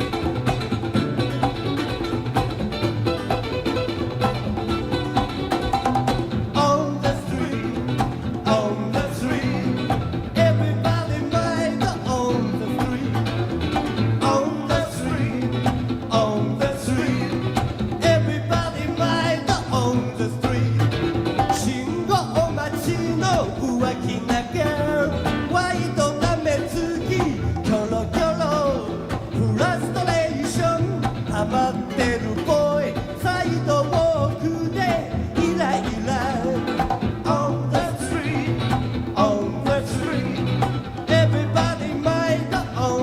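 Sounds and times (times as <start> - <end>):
rock and roll guitar duo: 0.0 - 43.0.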